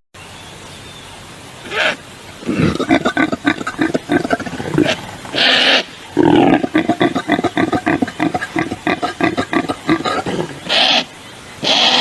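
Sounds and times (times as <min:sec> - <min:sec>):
animal grunting rapidly: 0:01.7 - 0:12.0
large animal harsh calls: 0:01.7 - 0:12.0.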